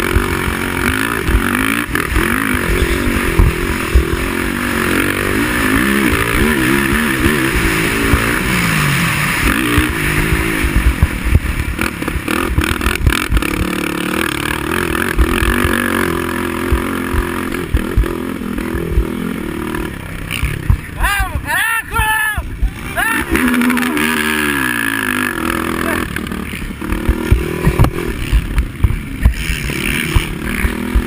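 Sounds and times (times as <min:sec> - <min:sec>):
quad engine revving: 0:00.0 - 0:21.5, 0:22.4 - 0:31.0
steady rushing noise: 0:00.0 - 0:31.0.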